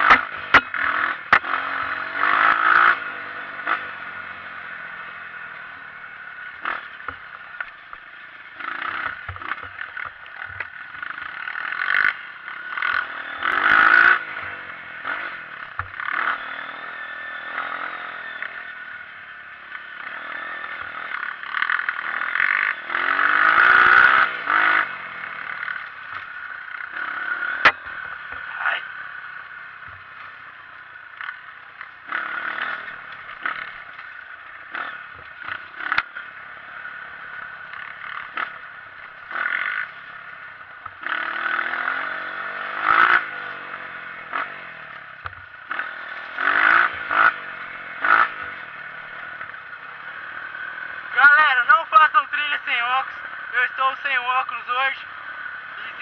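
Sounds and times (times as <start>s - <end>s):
rattles and scrapes from bike: 0.0s - 52.4s
motorcycle engine revving: 0.0s - 56.0s.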